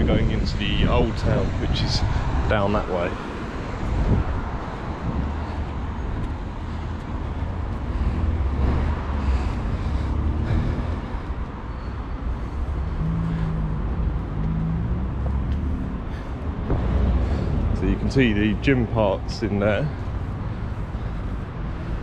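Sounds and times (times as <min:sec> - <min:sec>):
engine hum: 0:00.0 - 0:22.0
passing traffic rumble: 0:00.0 - 0:22.0.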